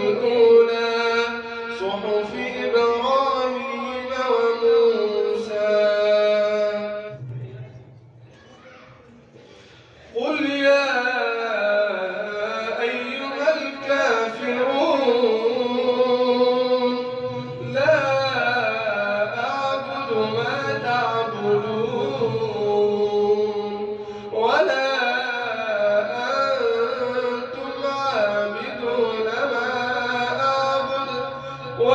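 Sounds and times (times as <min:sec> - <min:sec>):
man chanting melodically: 0:00.0 - 0:07.9, 0:10.1 - 0:31.9.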